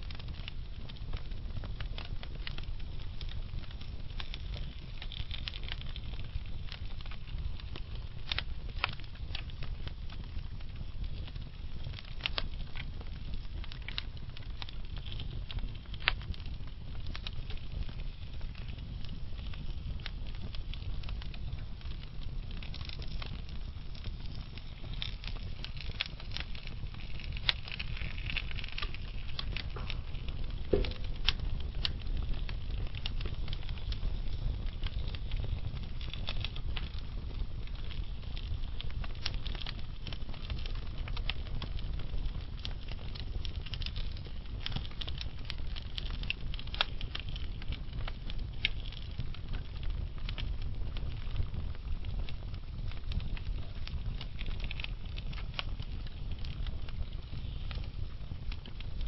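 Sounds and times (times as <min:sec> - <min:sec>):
fire rumbling: 0:00.0 - 0:59.0
wood fire crackling and popping: 0:00.0 - 0:59.0.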